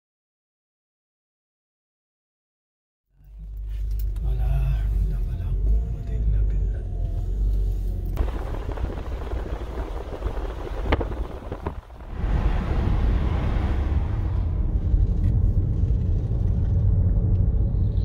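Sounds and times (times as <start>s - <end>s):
car road and wind rumble: 3.3s - 18.0s.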